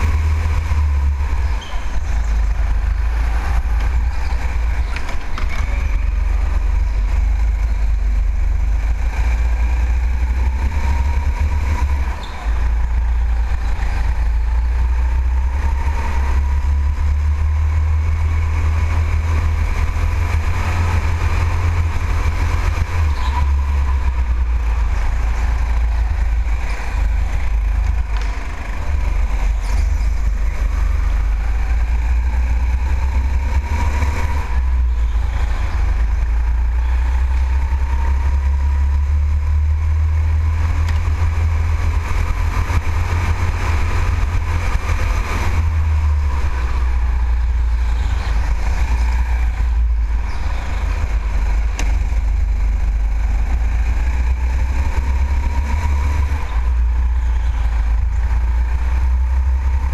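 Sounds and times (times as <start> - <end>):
go-kart engine rumble and whine: 0.0 - 59.9.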